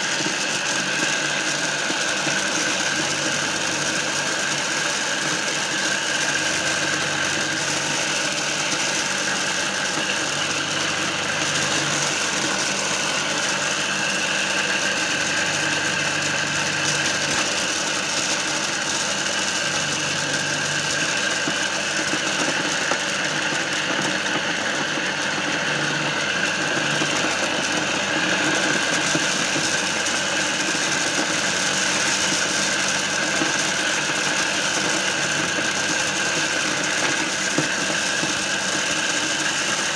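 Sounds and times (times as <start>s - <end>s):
corn sheller whirring and rattling: 0.0s - 39.9s.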